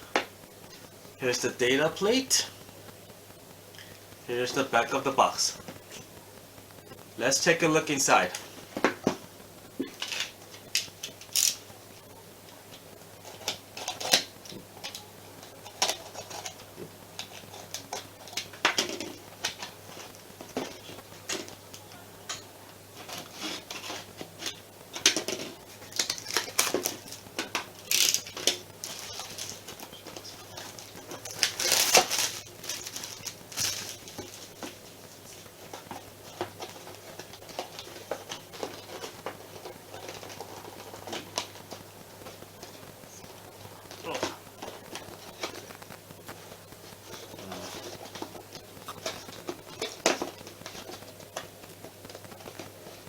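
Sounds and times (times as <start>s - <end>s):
cardboard rustling: 0.0s - 53.0s.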